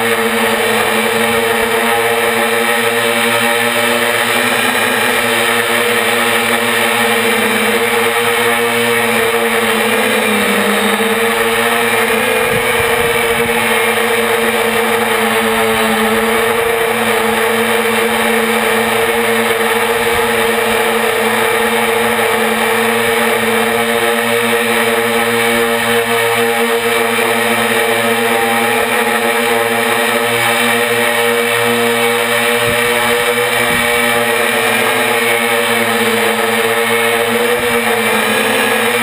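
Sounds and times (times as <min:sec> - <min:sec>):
quadcopter motors and propellers: 0:00.0 - 0:39.0.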